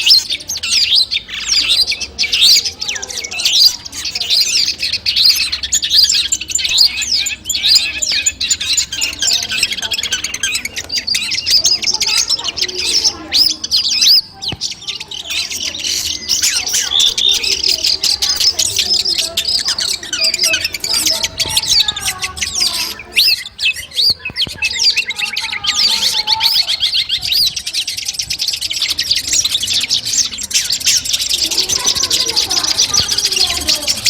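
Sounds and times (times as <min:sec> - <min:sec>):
songbird chirps and trills: 0:00.0 - 0:34.0.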